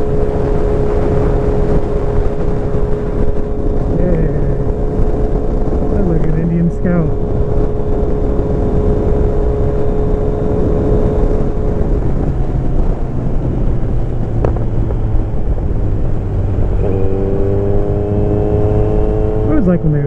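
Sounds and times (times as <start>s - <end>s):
motorcycle engine cruising: 0.0s - 20.0s
wind noise on microphone: 0.0s - 20.0s.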